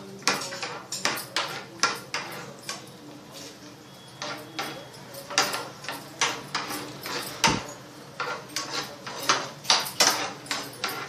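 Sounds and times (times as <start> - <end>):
nuts frying in oil: 0.0 - 11.0
spoon scraping a pan: 0.0 - 11.0.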